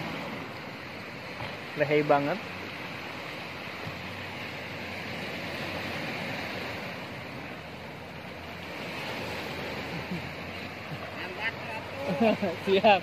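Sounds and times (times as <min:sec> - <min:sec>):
ocean waves washing over rocks: 0:00.0 - 0:13.0.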